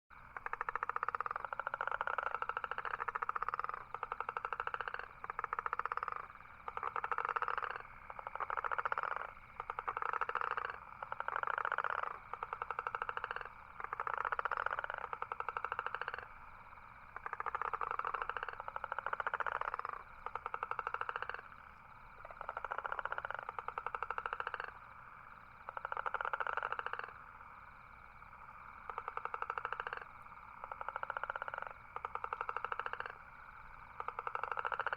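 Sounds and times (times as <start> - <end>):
toad trilling: 0.4 - 16.3, 17.2 - 24.9, 25.7 - 27.1, 28.9 - 33.2, 34.0 - 34.9.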